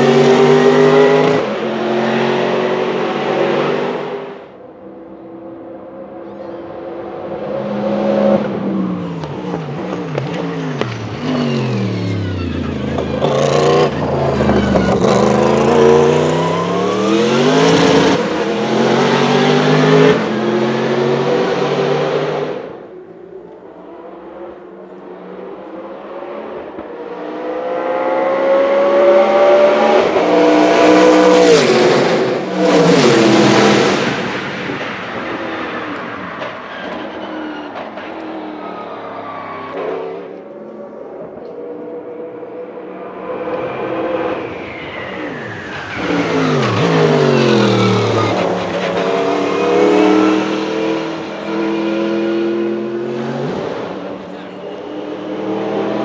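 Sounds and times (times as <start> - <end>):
race car engine: 0.0 - 56.0
race car passing by at speed: 6.6 - 56.0.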